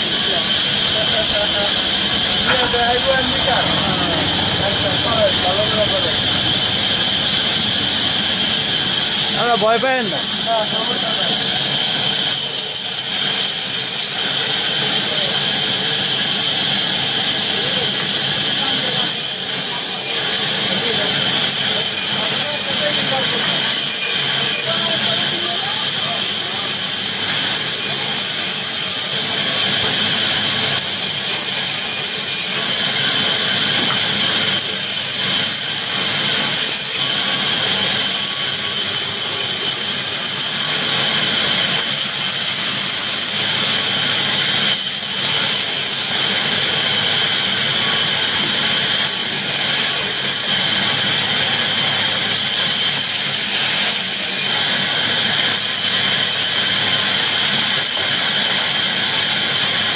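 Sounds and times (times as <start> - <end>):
band saw cutting a log: 0.0 - 59.9.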